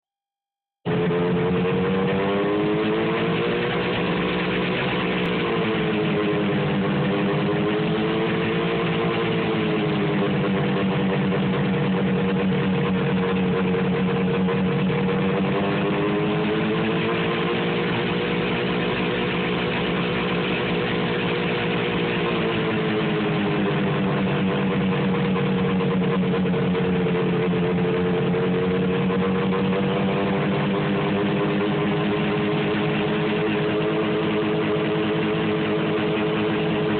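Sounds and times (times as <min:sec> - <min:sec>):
snowmobile engine idling roughly: 0:00.9 - 0:36.9.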